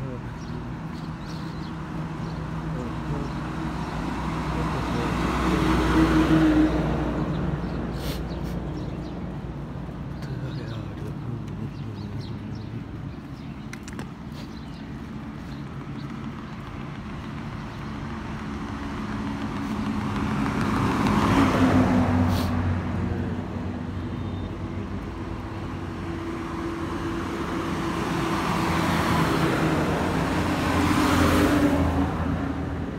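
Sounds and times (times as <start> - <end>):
heavy vehicles passing: 0.0 - 32.9.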